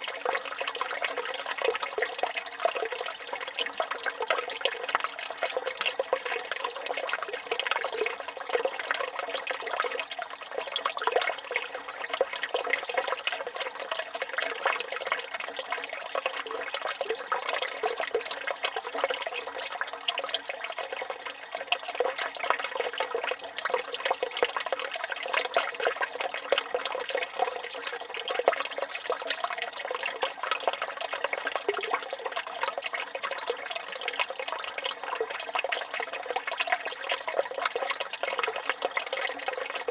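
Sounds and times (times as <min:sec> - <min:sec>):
fountain water splashing into basin: 0:00.0 - 0:39.9.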